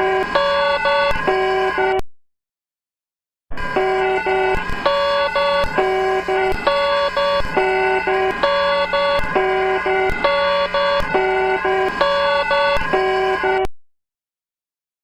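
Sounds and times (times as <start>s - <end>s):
electronic alert alarm tone: 0.0s - 2.0s, 3.6s - 13.7s.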